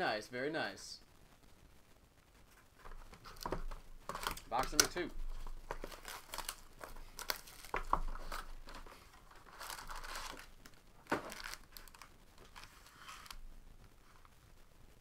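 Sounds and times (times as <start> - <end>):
plastic wrap and foil crinkling: 2.3 - 14.4.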